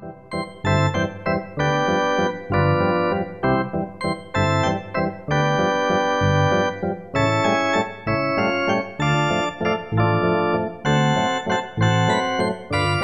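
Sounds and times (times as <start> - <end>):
organ chords over bass notes: 0.0 - 13.0.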